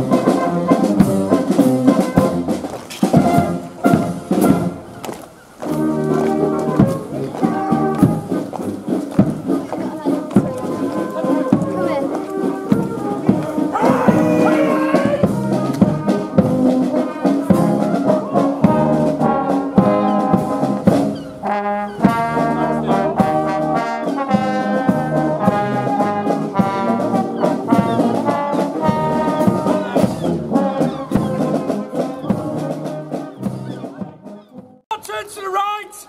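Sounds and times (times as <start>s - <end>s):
brass chords: 0.0s - 35.0s
marching drum strokes: 0.0s - 35.9s.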